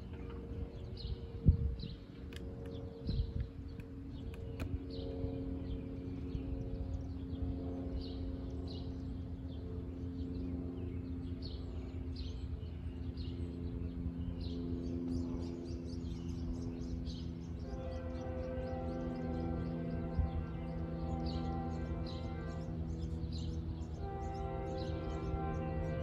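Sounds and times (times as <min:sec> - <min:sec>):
low rumble and hum: 0:00.0 - 0:26.0
small birds chirping: 0:00.0 - 0:26.0.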